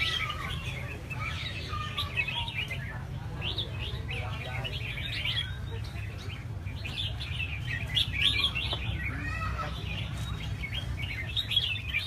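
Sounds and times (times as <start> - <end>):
caged birds singing: 0.0 - 12.0.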